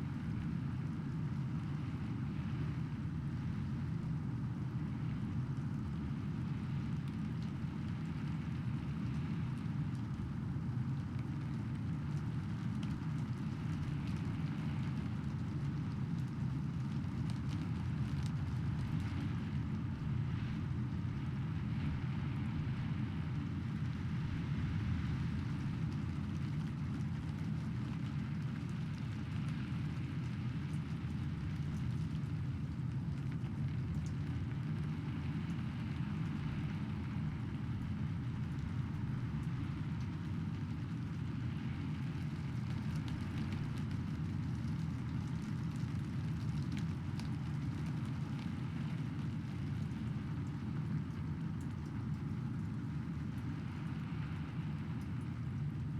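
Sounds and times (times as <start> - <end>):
constant low rumble: 0.0 - 55.9
steady rain: 0.0 - 55.9.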